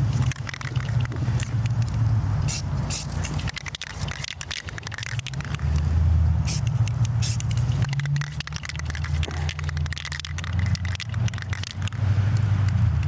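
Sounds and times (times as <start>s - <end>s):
crackles and clicks: 0.0s - 2.1s, 2.9s - 5.9s, 6.6s - 13.0s
engine running steadily: 0.0s - 13.0s.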